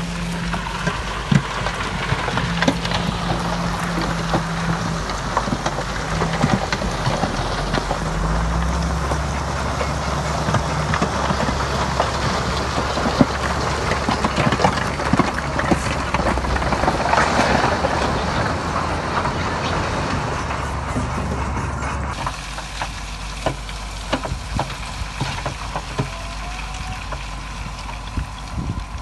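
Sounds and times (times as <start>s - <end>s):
diesel machinery engine running: 0.0s - 29.0s
machinery clatter and knocks: 0.0s - 29.0s.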